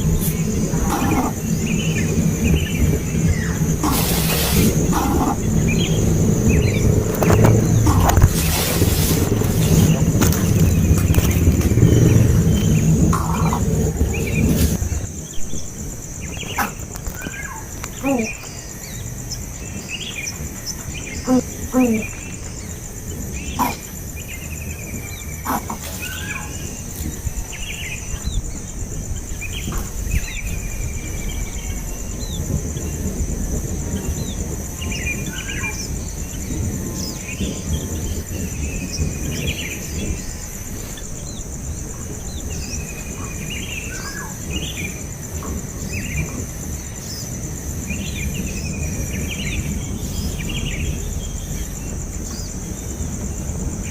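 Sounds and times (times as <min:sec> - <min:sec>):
high-pitched insect drone: 0:00.0 - 0:53.9
low background rumble: 0:00.0 - 0:53.9
small birds chirping: 0:00.0 - 0:53.9.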